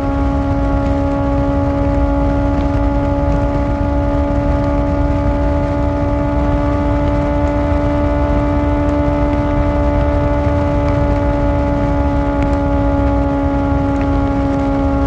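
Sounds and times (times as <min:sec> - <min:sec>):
motorcycle engine steady revs: 0:00.0 - 0:15.0
wind and road noise rumble: 0:00.0 - 0:15.0.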